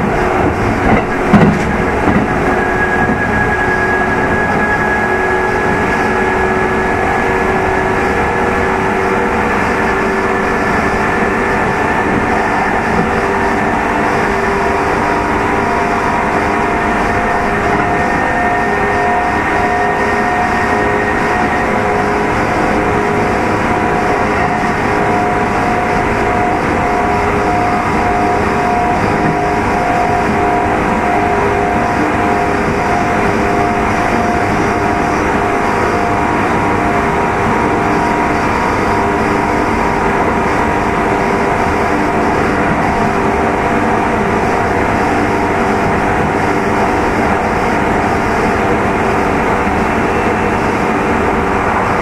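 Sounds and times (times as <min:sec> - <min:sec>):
traction motor whine: 0:00.0 - 0:52.0
wheels rumbling on rail: 0:00.0 - 0:52.0.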